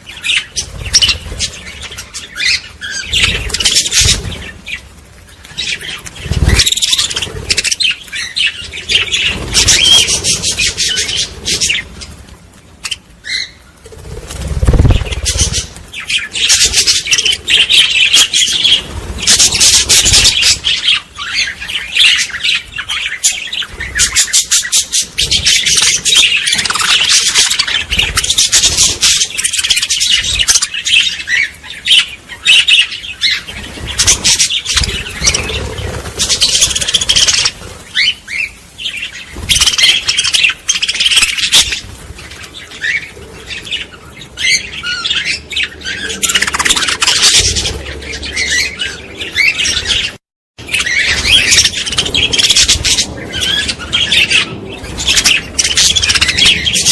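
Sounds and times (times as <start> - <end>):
flock of birds chirping: 0.0 - 56.9.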